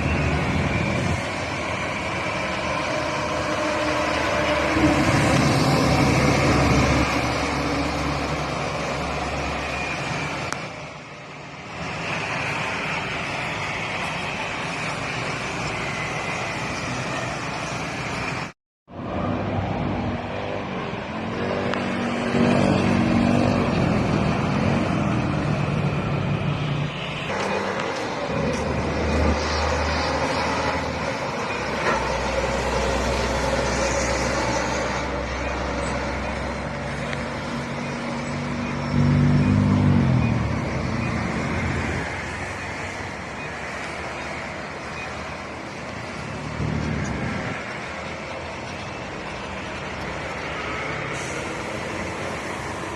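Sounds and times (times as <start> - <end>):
heavy truck engines passing: 0.0 - 52.9
steady traffic noise: 0.0 - 52.9.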